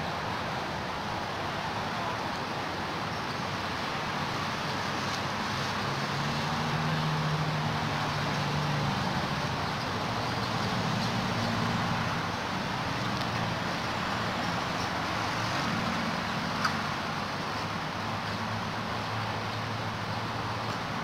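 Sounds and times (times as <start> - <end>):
road traffic noise: 0.0 - 21.0
vehicle engine hum passing: 0.0 - 21.0.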